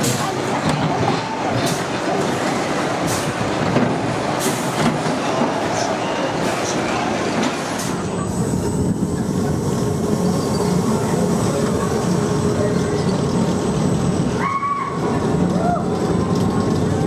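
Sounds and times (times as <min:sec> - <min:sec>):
roller coaster rolling rumble: 0:00.0 - 0:17.0
wheel noise on steel track: 0:00.0 - 0:17.0.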